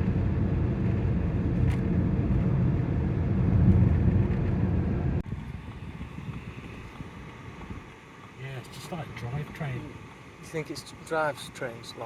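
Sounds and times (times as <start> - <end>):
road and tyre rumble inside car: 0.0 - 12.0.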